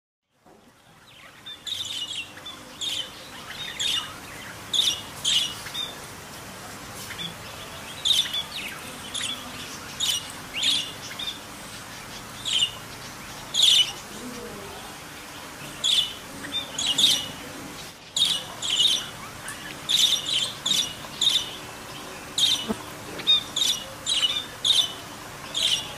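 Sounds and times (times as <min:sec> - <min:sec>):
steady background hiss: 0:00.3 - 0:25.9
budgerigars chirping: 0:00.8 - 0:06.3, 0:07.0 - 0:25.9.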